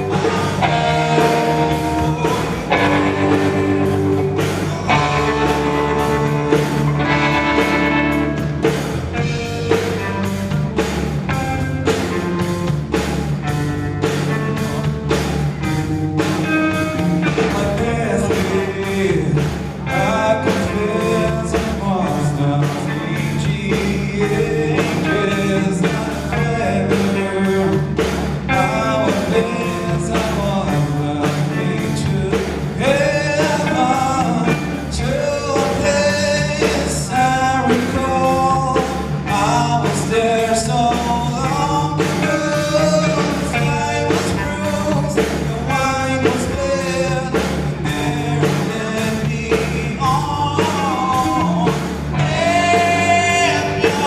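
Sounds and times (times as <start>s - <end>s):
person singing: 0.0s - 10.6s, 16.2s - 54.0s
bass guitar: 0.0s - 54.0s
drum kit beat: 0.0s - 54.0s
electric guitar: 0.0s - 54.0s.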